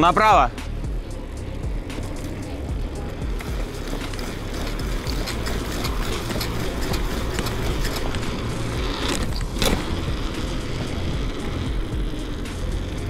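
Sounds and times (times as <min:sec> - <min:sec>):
bicycle tyre noise: 0:00.0 - 0:13.0
bike clicks and rattles: 0:00.6 - 0:13.0
wheels knocking over speed bump: 0:01.7 - 0:13.0.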